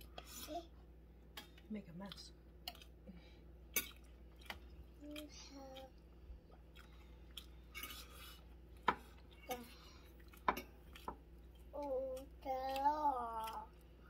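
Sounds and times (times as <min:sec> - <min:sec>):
chewing and mouth noises: 0:01.4 - 0:14.0.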